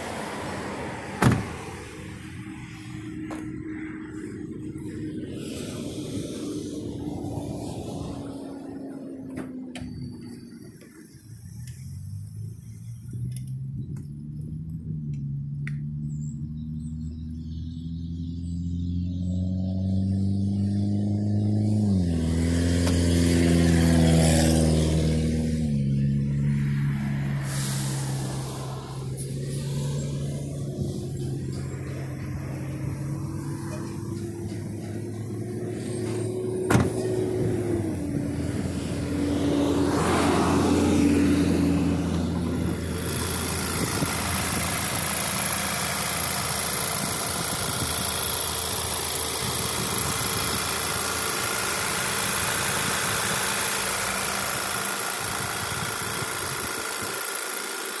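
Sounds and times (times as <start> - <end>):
car engine idling: 0.0 - 18.5, 27.4 - 58.0.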